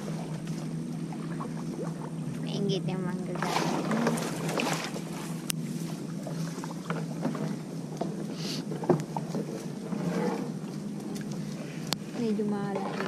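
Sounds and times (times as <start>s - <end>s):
paddle splashing through water: 0.0s - 2.6s, 3.2s - 13.0s.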